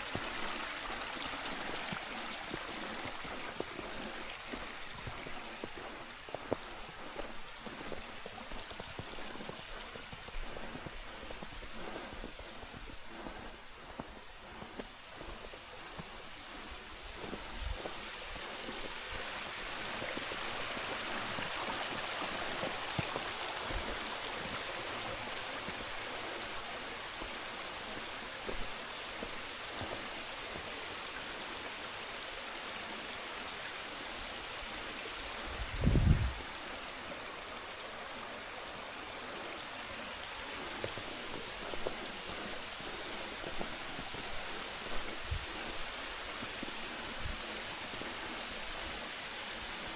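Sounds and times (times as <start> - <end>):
flowing mountain water: 0.0 - 49.9.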